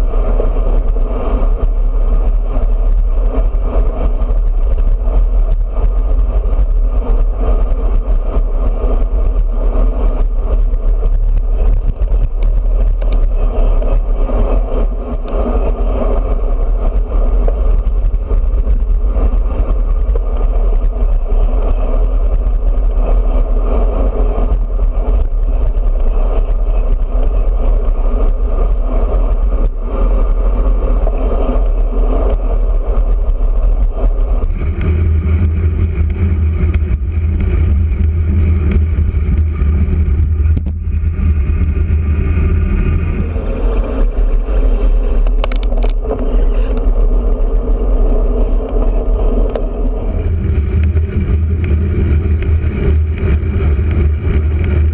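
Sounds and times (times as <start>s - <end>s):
tyre and road noise: 0.0s - 54.9s
wind rumble on microphone: 0.0s - 54.9s.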